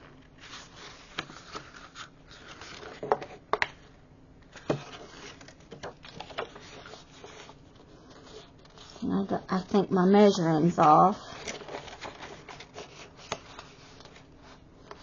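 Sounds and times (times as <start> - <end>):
paper rustling: 0.0 - 3.8, 4.5 - 15.0.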